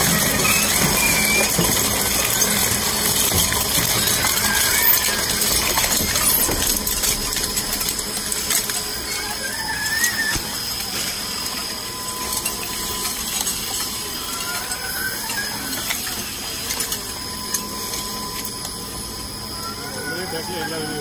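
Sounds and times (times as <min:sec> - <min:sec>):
shredder machine running: 0:00.0 - 0:21.0.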